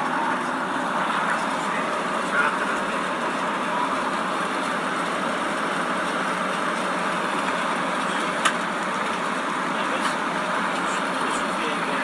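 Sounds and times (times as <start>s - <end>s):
aircraft engine and propeller drone: 0.0s - 12.0s.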